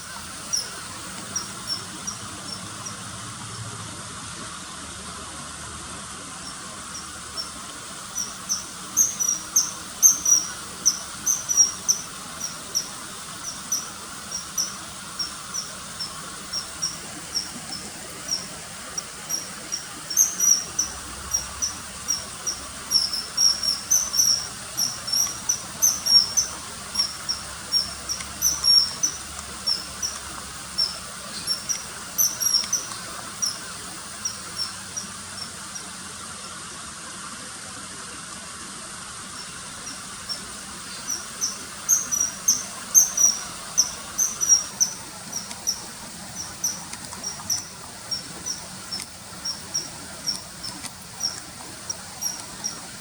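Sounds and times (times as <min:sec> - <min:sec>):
bird calling high sharp notes: 0:06.5 - 0:35.9, 0:39.4 - 0:53.0.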